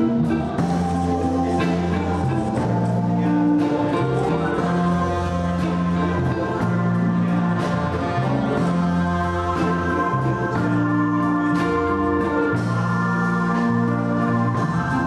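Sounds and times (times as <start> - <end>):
drum kit: 0.0 - 15.0
electric guitars: 0.0 - 15.0
keyboard: 0.0 - 15.0
saxophone long notes: 0.0 - 15.0.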